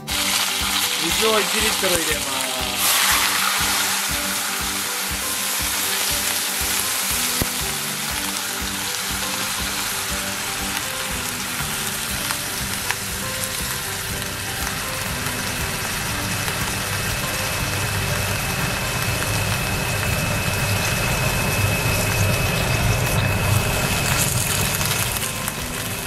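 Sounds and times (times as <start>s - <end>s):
water sizzling in hot pot: 0.0s - 26.0s.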